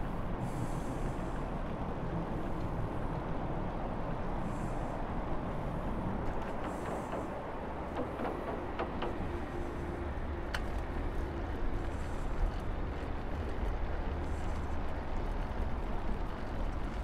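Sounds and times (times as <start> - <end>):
wind and road rumble from bicycle: 0.0 - 17.0.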